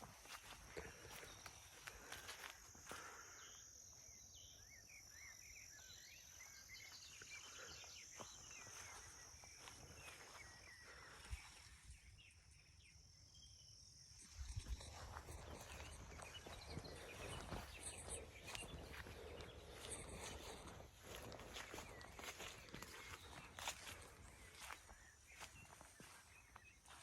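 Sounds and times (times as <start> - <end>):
high insect drone: 0.0 - 26.9.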